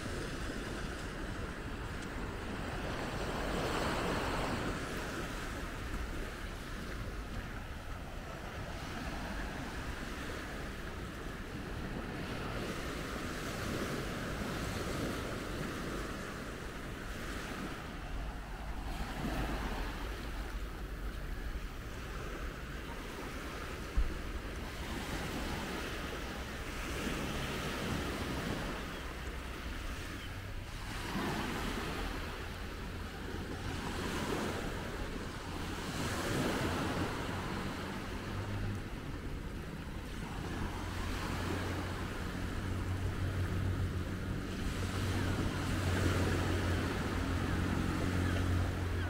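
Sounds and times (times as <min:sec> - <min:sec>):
small waves washing up beach: 0:00.0 - 0:49.0
wind rumble on microphone: 0:00.0 - 0:49.0.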